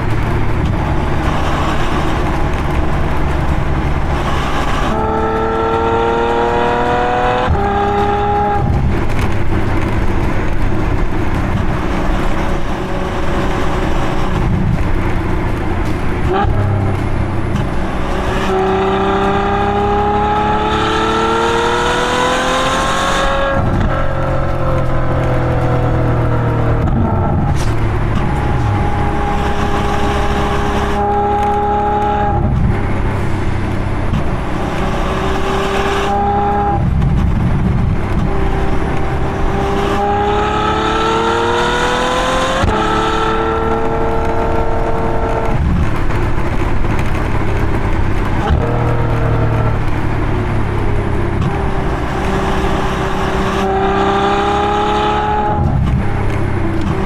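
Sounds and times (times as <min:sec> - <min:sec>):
car engine exhaust revving: 0:00.0 - 0:57.0.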